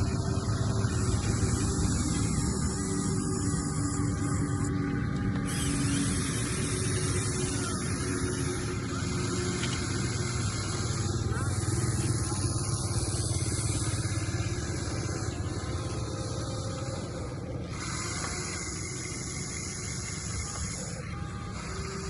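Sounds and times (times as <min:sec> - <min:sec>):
small electric motors buzzing: 0:00.0 - 0:22.0.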